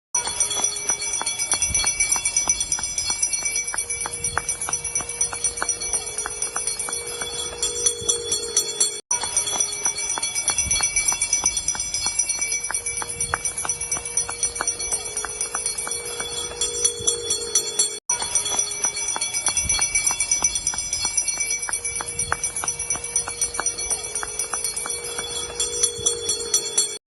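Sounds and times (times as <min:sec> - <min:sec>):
hand bells ringing: 0:00.2 - 0:27.0
long held tone: 0:00.2 - 0:27.0
rhythmic beat: 0:00.2 - 0:27.0.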